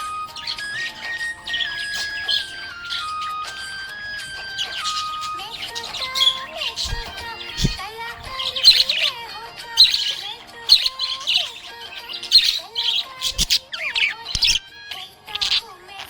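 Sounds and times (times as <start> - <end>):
background music: 0.0 - 16.0
budgerigar chirping and warbling: 0.0 - 16.0.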